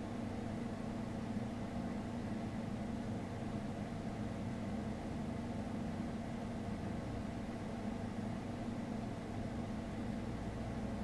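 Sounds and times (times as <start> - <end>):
low rumble and hiss: 0.0 - 11.0
steady hum: 0.0 - 11.0.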